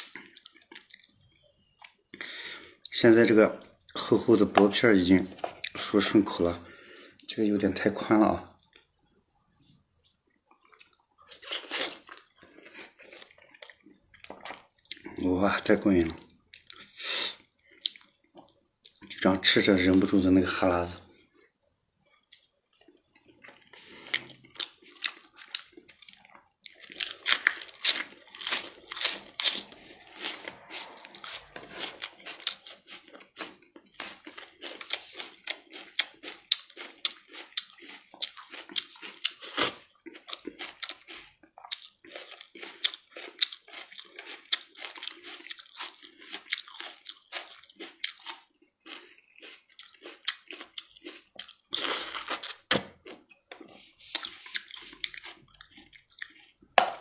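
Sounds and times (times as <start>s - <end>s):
person chewing food: 0.0s - 2.9s, 3.6s - 5.9s, 8.5s - 15.4s, 16.2s - 19.2s, 21.0s - 57.0s.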